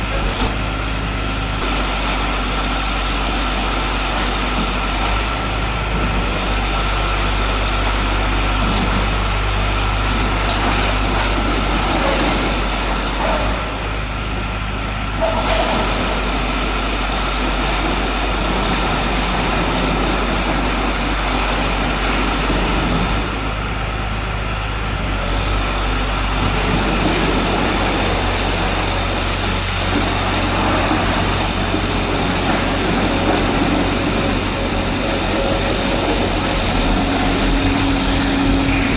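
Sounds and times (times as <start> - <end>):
baler engine running: 0.0 - 38.9.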